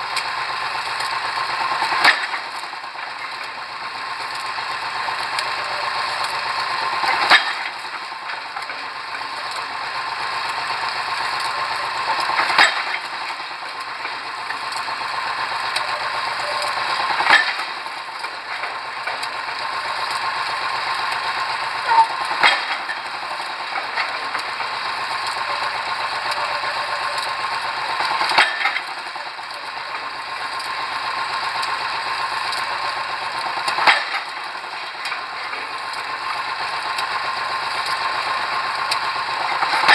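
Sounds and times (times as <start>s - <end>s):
rig machinery running: 0.0s - 39.9s.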